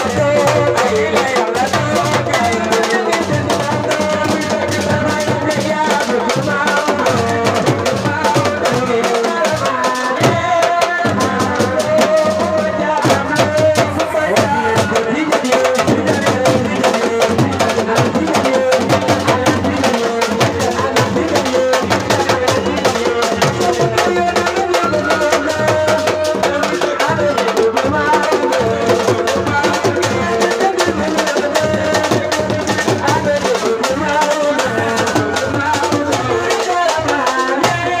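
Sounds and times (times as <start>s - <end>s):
fast dense drumming: 0.0s - 38.0s.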